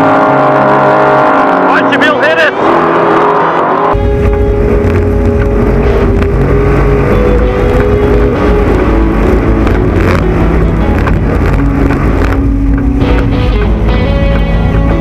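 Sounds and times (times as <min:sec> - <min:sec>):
truck race engine revving: 0:00.0 - 0:15.0.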